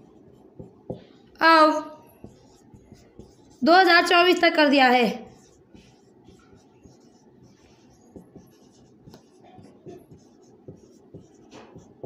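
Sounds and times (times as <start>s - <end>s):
marker scratching on whiteboard: 0.0s - 12.0s.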